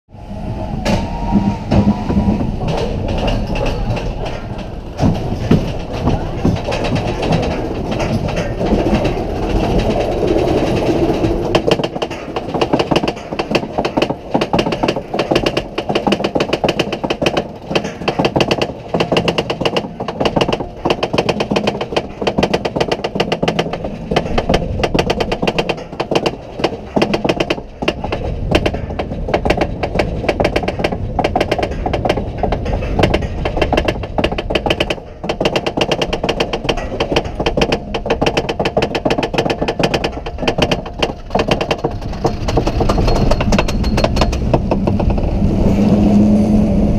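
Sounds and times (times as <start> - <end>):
roller coaster lift clicking: 0.3 - 46.9.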